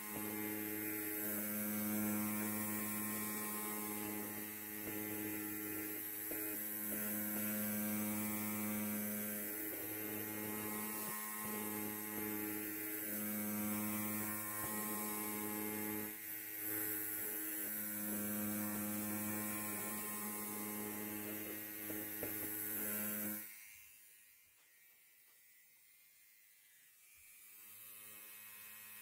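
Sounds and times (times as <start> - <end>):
electric hair clipper buzzing: 0.0 - 29.0.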